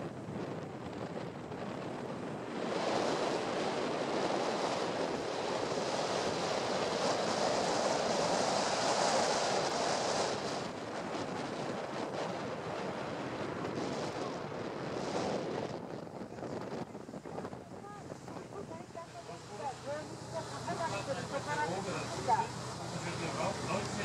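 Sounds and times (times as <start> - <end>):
open water washing: 0.0 - 24.0
wind on microphone: 0.0 - 24.0.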